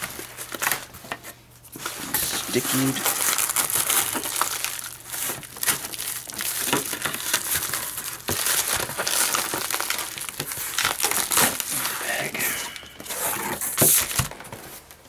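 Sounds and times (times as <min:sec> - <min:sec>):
plastic mailer crinkling: 0:00.0 - 0:15.0.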